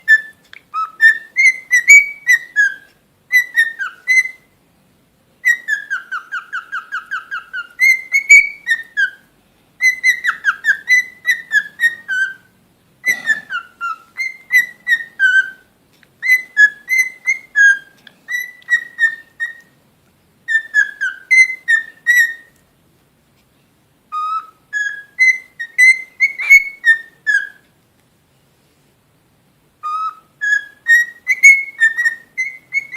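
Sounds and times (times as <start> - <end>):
cockatiel whistling: 0.0 - 4.5, 5.4 - 19.8, 20.5 - 22.6, 24.1 - 27.7, 29.8 - 32.9.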